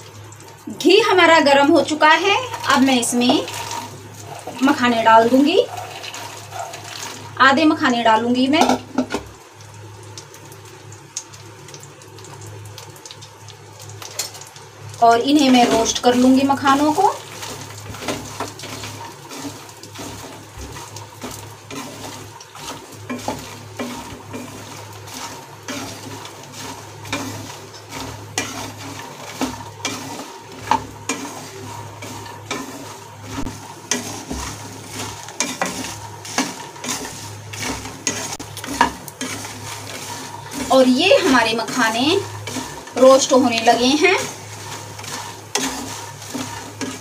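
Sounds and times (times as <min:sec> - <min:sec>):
faint sizzle of hot fat: 0:00.0 - 0:47.0
seeds scraping and clicking in a pan: 0:01.9 - 0:07.9, 0:10.2 - 0:47.0.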